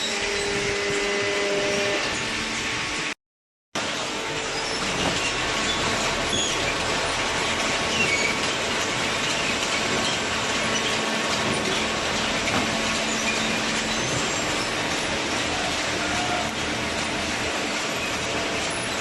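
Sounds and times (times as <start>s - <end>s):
baling machinery running: 0.0s - 3.1s, 3.8s - 19.0s.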